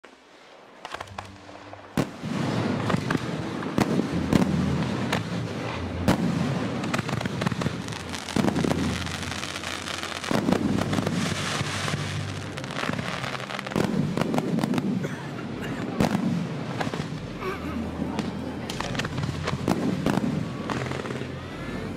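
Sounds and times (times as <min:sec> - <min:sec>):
fireworks bangs: 0:00.0 - 0:21.9
fireworks crackle: 0:00.0 - 0:21.9.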